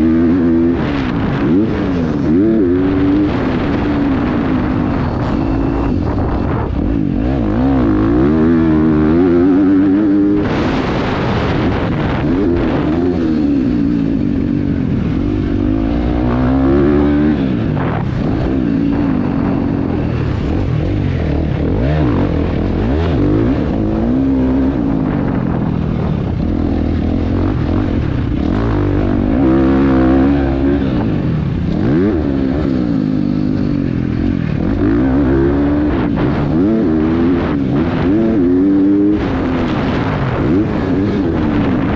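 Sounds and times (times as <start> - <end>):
dirt bike engine revving: 0.0 - 41.9
rush of noise: 0.0 - 41.9.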